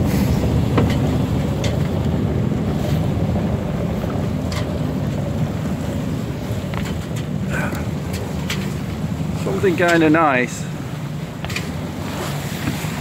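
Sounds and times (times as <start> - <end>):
water washing along hull: 0.0 - 13.0
wind buffeting microphone: 0.0 - 13.0.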